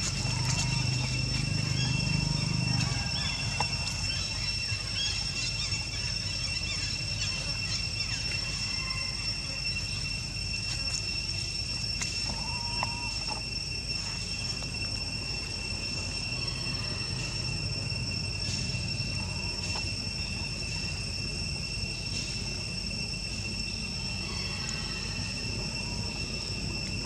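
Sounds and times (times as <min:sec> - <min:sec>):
faint chirps: 0:00.0 - 0:27.0
high-pitched insect drone: 0:00.0 - 0:27.0
low background rumble: 0:00.0 - 0:27.0.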